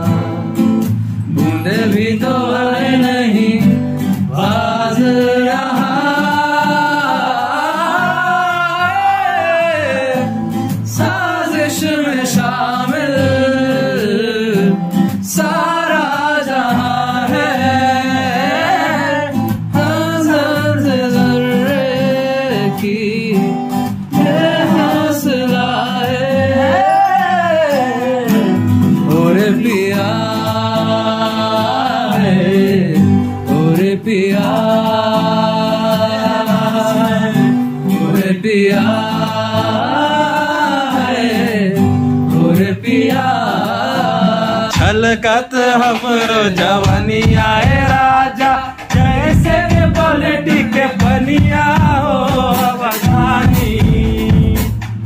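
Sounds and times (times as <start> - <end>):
acoustic guitars: 0.0 - 55.0
man singing: 0.0 - 55.0.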